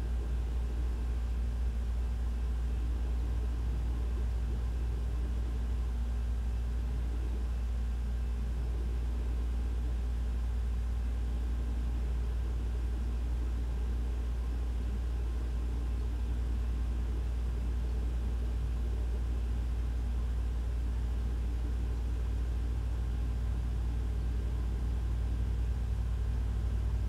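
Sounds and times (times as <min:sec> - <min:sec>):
ventilation system droning: 0:00.0 - 0:27.0.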